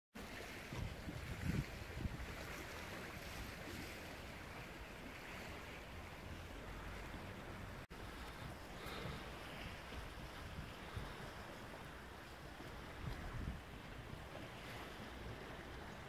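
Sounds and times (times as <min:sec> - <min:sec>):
sea washing against breakwater: 0:00.2 - 0:16.0
wind on microphone: 0:00.3 - 0:16.0.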